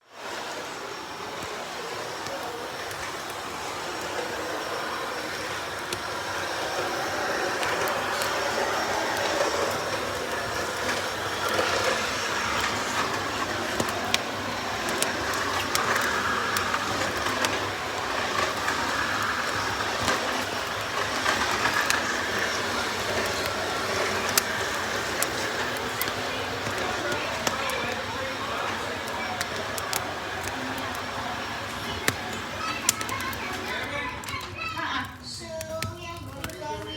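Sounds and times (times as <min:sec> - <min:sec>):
fire hissing: 0:00.0 - 0:36.9
fire popping and snapping: 0:00.0 - 0:36.9.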